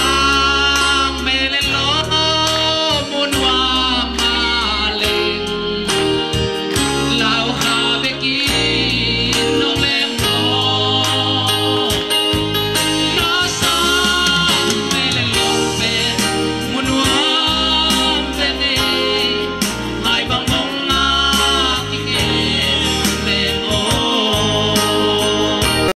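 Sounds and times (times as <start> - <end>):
instrumental accompaniment with bass: 0.0 - 25.9
man singing into microphone: 0.0 - 25.9.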